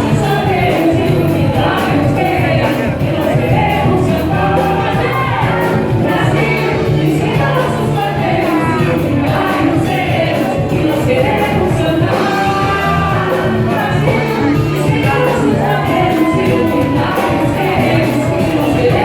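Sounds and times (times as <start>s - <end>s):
live band music: 0.0s - 19.0s
person singing: 0.0s - 19.0s.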